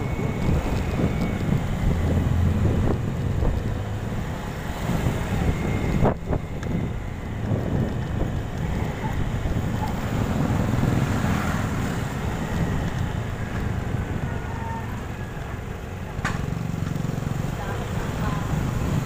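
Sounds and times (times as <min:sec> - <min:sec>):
motorcycle running: 0:00.0 - 0:19.0
road noise: 0:00.0 - 0:19.0
wind rushing over microphone: 0:00.0 - 0:19.0.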